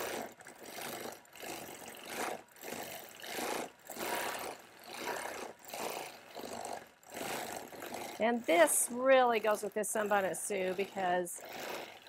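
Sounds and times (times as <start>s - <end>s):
quilting machine stitching: 0.0s - 12.0s.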